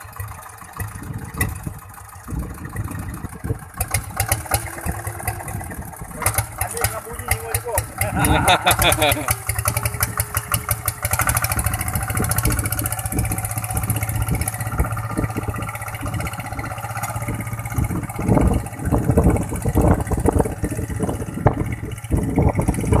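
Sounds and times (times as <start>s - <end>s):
loud uneven noise: 0.0s - 23.0s
tractor engine running: 0.0s - 23.0s.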